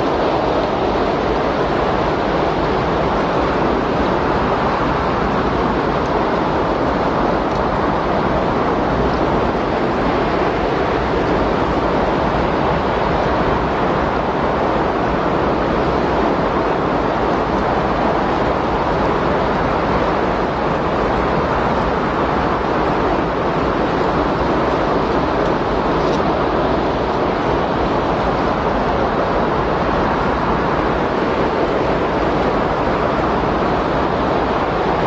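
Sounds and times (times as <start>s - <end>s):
rushing wind: 0.0s - 35.0s.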